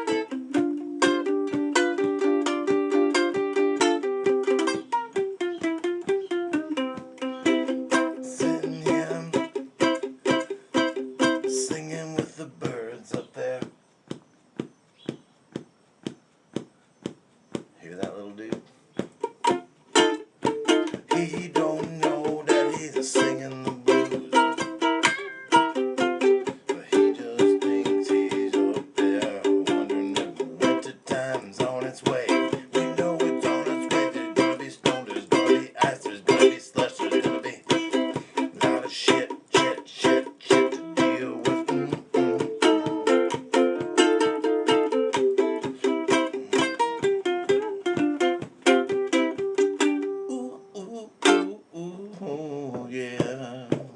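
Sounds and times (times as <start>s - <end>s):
acoustic plucked string blues: 0.0s - 13.8s, 17.9s - 53.9s.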